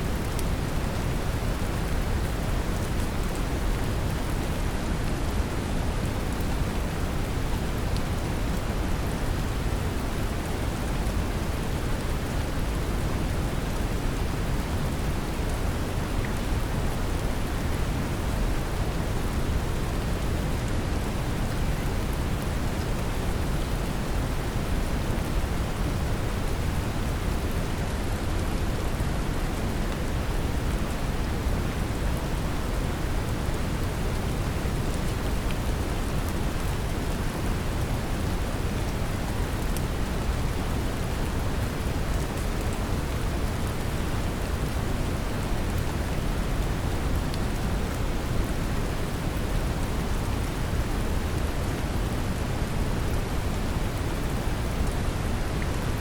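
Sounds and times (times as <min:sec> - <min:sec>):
gentle rain patter: 0:00.0 - 0:56.0.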